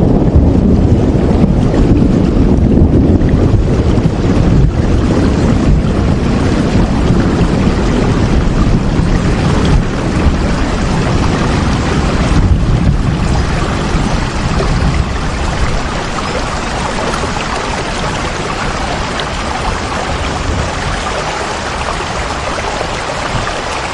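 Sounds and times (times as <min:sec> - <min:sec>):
heavy rain: 0:00.0 - 0:23.9.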